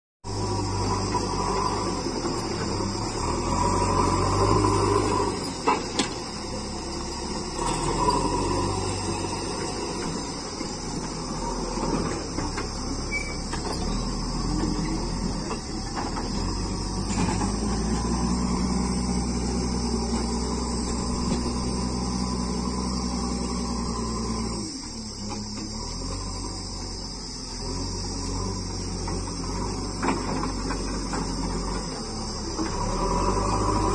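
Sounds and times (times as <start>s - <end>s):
diesel engine running: 0.2s - 33.9s
high-pitched hiss: 0.4s - 33.9s.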